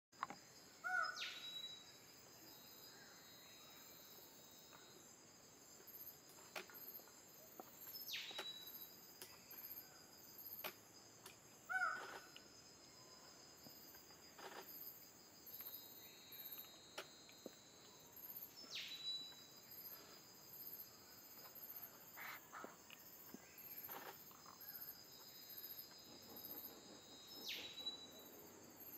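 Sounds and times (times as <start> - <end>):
high insect drone: 0.2 - 28.9
pulsing insect chirps: 0.3 - 28.9.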